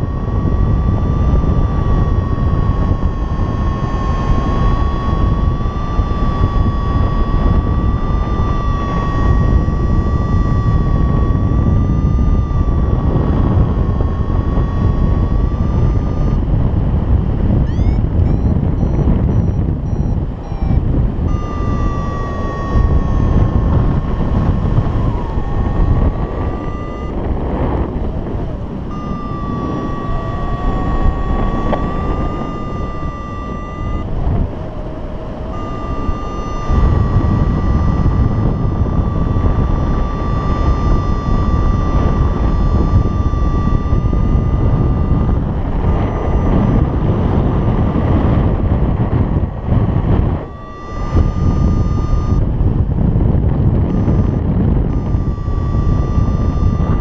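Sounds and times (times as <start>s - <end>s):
steady electronic tone: 0.0s - 57.0s
wind on microphone: 0.0s - 57.0s.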